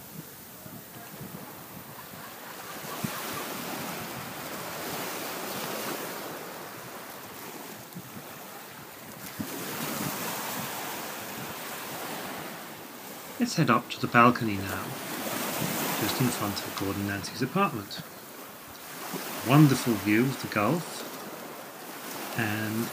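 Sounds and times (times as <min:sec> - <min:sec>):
surf: 0:00.0 - 0:22.9
wind: 0:00.0 - 0:22.9.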